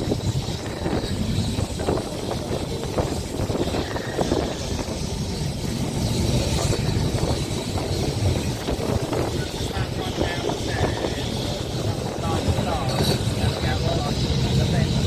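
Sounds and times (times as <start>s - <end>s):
tram wheels and motors running: 0.0s - 15.0s.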